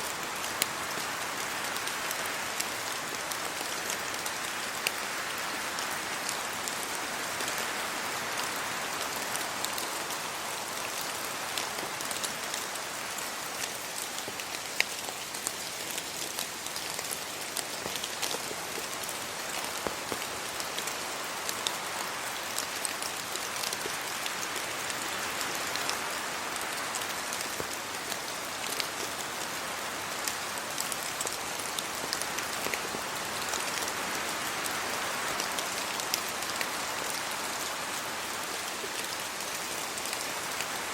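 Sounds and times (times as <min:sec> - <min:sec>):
raindrops ticking on surfaces: 0:00.0 - 0:40.9
steady rain hissing: 0:00.0 - 0:40.9.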